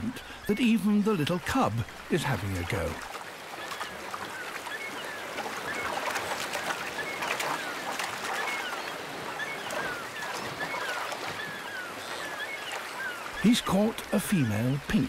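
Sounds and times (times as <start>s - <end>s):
gulls calling: 0.0s - 15.0s
stream rushing over rocks: 0.0s - 15.0s
splashes in water: 2.0s - 14.2s.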